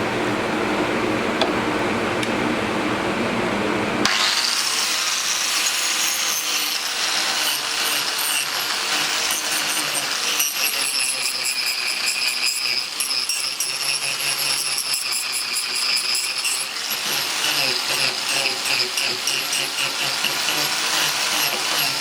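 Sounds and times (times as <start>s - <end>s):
angle grinder grinding wood: 4.0s - 22.0s.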